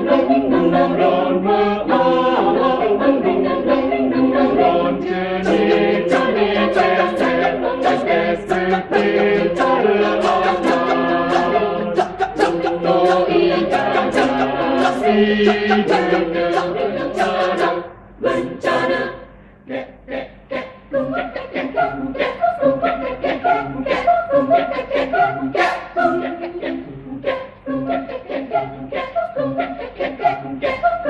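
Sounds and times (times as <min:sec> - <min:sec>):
choir singing a cappella: 0:00.0 - 0:31.0.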